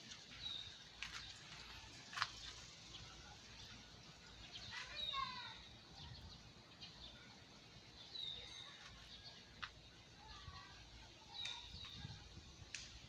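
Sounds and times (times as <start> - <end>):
birds calling: 0.0 - 12.2
faint outdoor background noise: 0.0 - 13.0.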